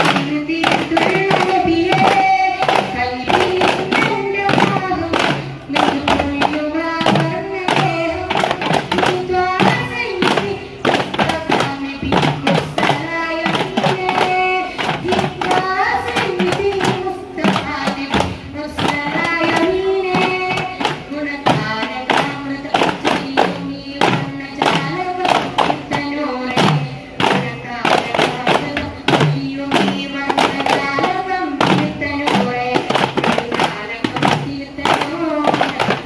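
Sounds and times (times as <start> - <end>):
frame drums beaten by hand: 0.0 - 36.0
voices singing: 0.0 - 36.0.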